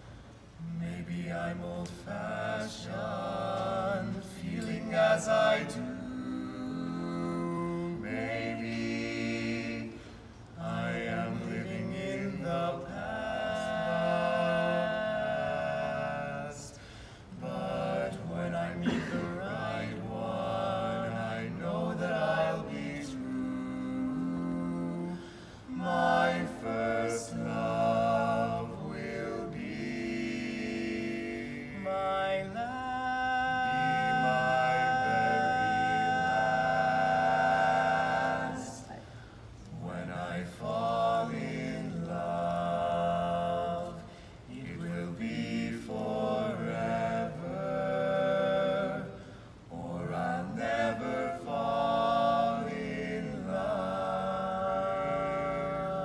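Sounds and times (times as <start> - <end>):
male voices singing in close harmony: 0.6 - 56.0.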